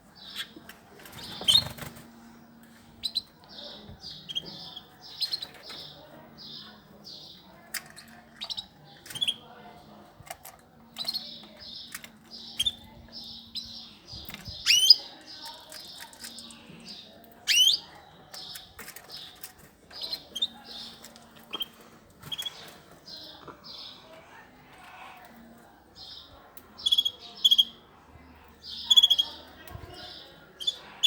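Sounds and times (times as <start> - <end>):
cage birds chirping: 0.0 - 31.0.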